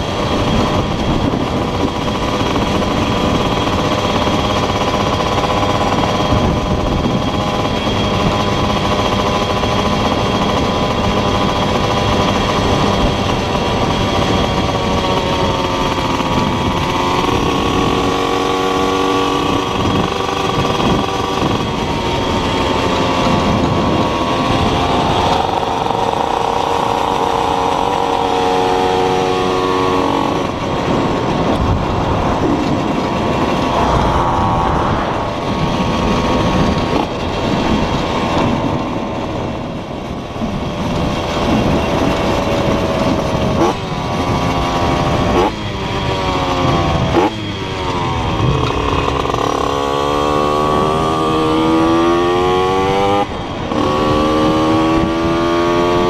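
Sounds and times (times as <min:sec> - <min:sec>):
small motorcycle engine revving: 0:00.0 - 0:56.0
wind noise on microphone: 0:00.0 - 0:56.0.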